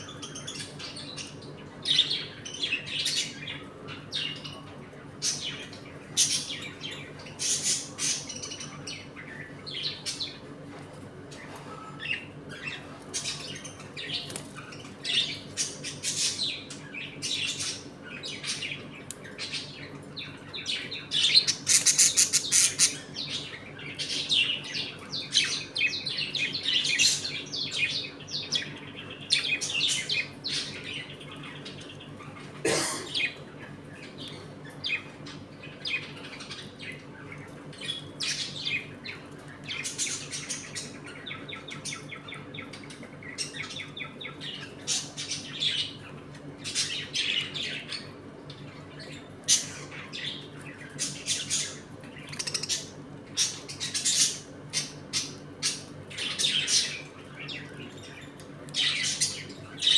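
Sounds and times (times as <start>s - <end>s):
budgerigars chattering and chirping: 0.0s - 10.5s, 12.0s - 59.9s.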